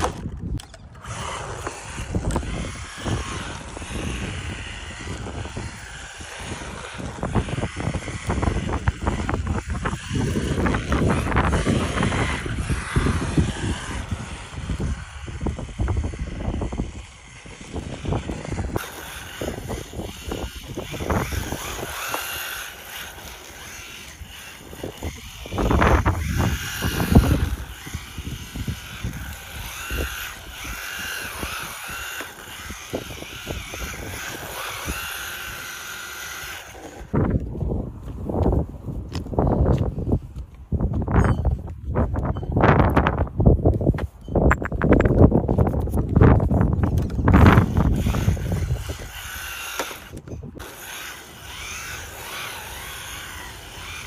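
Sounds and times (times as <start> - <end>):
electric motor whining: 0.0 - 40.0, 46.2 - 54.0
wind on microphone: 0.0 - 54.0.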